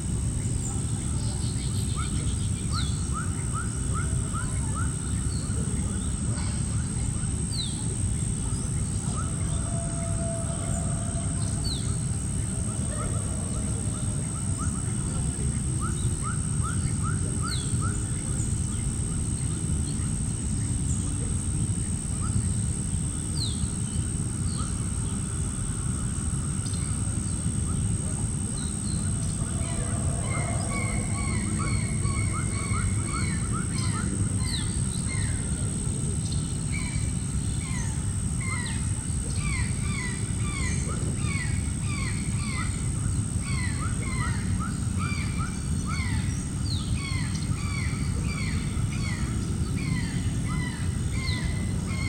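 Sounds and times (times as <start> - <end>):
constant high thin tone: 0.0 - 52.0
low background rumble: 0.0 - 52.0
small birds chirping: 0.3 - 52.0.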